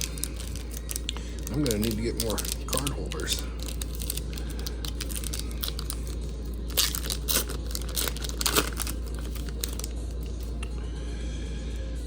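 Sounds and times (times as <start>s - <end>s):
plastic packaging crinkling: 0.0s - 10.7s
low hum: 0.0s - 12.0s.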